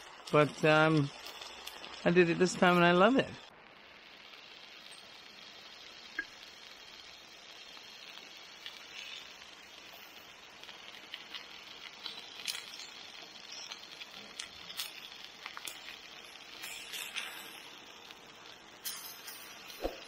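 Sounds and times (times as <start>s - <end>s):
rain pattering: 0.0s - 19.8s
steak sizzling on a grill: 0.0s - 20.0s.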